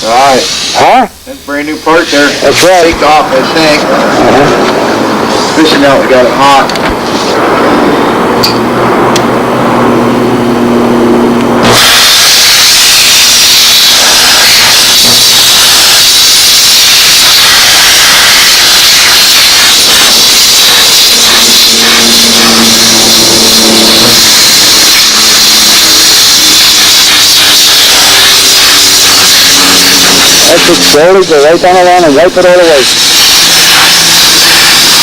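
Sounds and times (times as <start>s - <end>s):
steam cleaner hissing: 0.0s - 7.6s, 11.6s - 35.0s.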